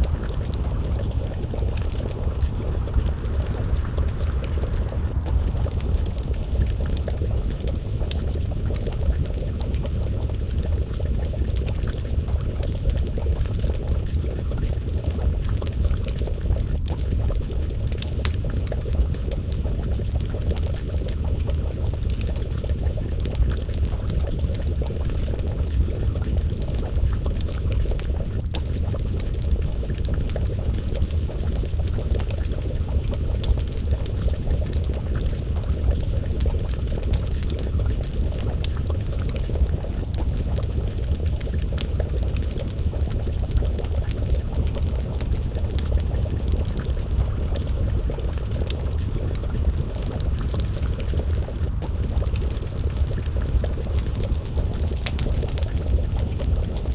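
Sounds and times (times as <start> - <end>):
stew bubbling in a pot: 0.0 - 56.9
wood fire crackling: 0.0 - 56.9.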